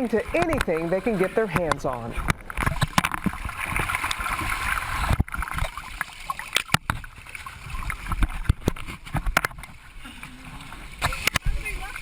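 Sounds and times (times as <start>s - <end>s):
sea water splashing: 0.0s - 12.0s
water slapping and knocking: 0.0s - 12.0s.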